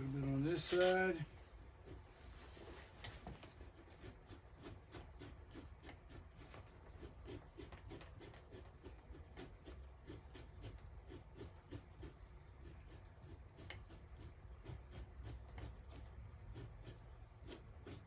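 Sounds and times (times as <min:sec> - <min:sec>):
knife scraping a pelt: 0:00.5 - 0:18.0.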